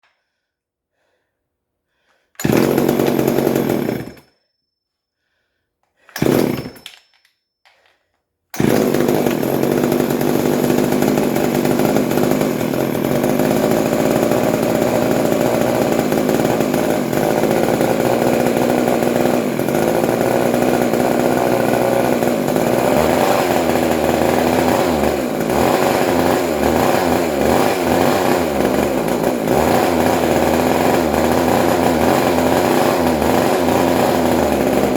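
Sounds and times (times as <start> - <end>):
chainsaw engine running: 2.4 - 4.3, 6.2 - 6.8, 8.6 - 34.9.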